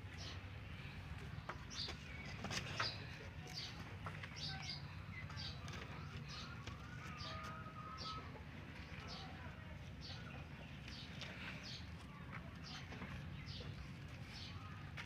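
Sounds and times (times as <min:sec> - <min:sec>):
low background hum: 0:00.0 - 0:15.0
small birds chirping: 0:00.0 - 0:15.0.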